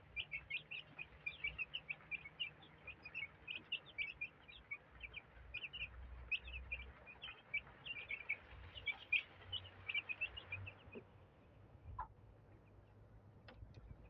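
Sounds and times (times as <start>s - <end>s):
chicks peeping: 0.0s - 11.1s, 11.9s - 13.0s.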